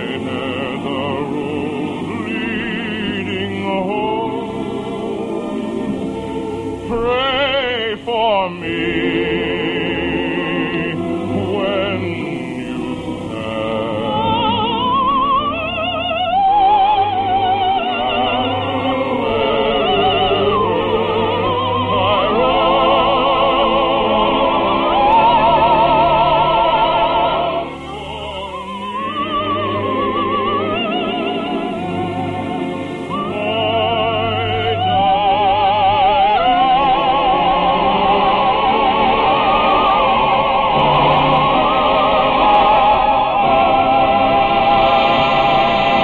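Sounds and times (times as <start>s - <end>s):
operatic singing: 0.0s - 46.0s
orchestra playing: 0.0s - 46.0s.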